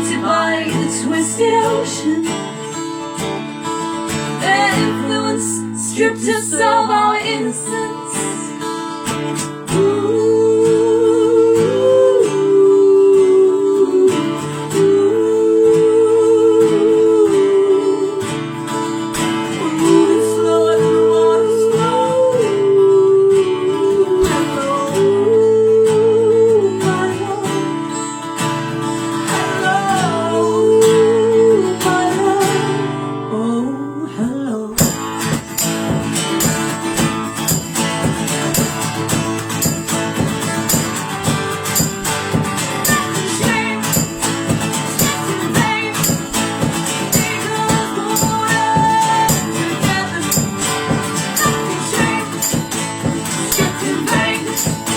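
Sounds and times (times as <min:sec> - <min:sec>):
wordless singing: 0:00.0 - 0:02.6, 0:04.4 - 0:08.6, 0:09.6 - 0:18.3, 0:19.6 - 0:27.7, 0:29.2 - 0:54.9
acoustic guitar strumming: 0:00.0 - 0:54.9.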